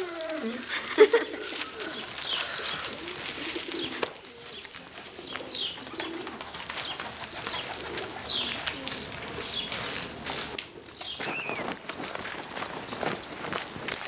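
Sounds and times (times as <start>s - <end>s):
pigeons cooing: 0.0s - 13.6s
soft footsteps: 0.2s - 14.0s.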